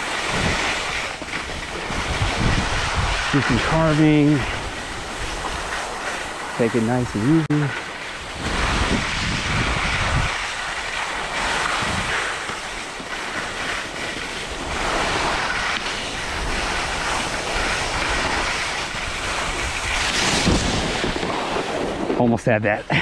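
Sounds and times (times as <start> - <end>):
skis scraping over snow: 0.0 - 23.0
wind on microphone: 0.0 - 23.0.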